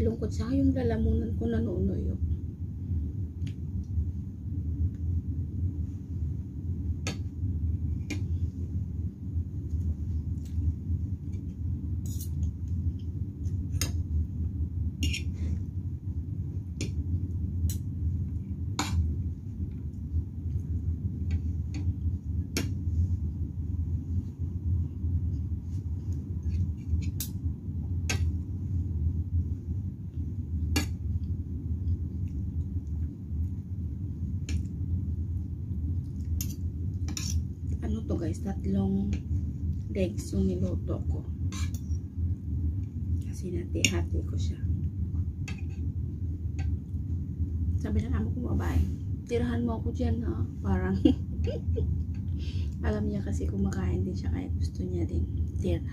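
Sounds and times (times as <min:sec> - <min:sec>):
steady low rumble: 0:00.0 - 0:55.9.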